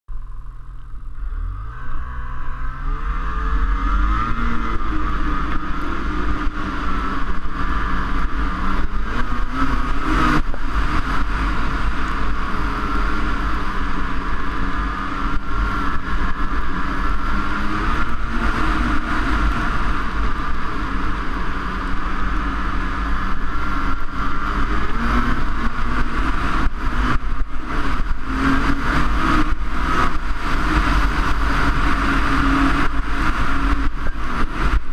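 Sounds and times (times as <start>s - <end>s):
snowmobile engine revving: 0.3s - 34.9s.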